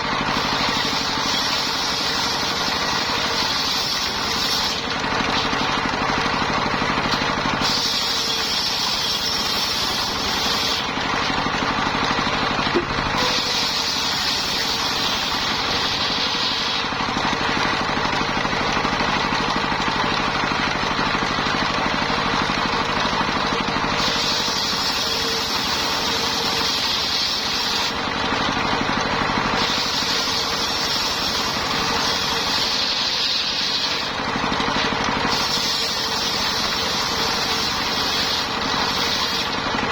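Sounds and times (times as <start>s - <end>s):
saw blade cutting whine: 0.0s - 39.9s
sawmill engine running: 0.0s - 39.9s.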